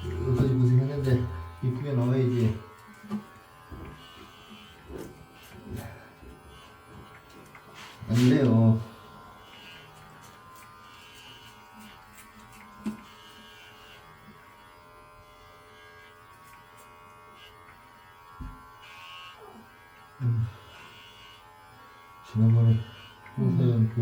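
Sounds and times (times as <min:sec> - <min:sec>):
electric clippers buzzing: 0:00.0 - 0:24.0.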